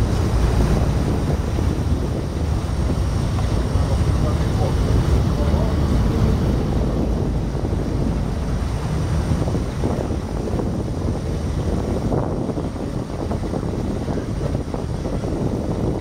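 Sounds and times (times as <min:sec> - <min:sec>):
ship engine rumbling: 0:00.0 - 0:16.0
wind buffeting microphone: 0:00.0 - 0:16.0.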